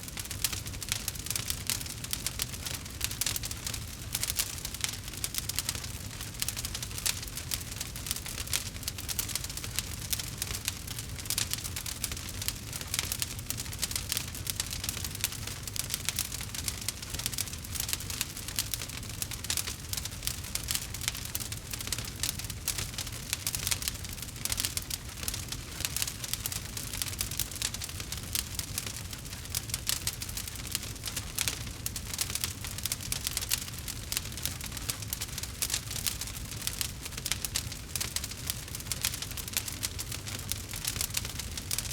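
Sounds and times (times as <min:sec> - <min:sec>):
fireplace crackling: 0:00.0 - 0:41.9
rain pattering: 0:00.0 - 0:41.9.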